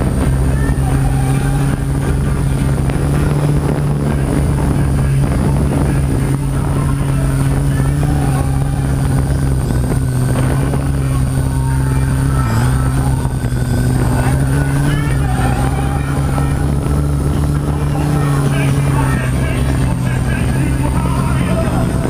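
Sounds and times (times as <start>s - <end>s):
drone motors humming and whining: 0.0s - 22.0s.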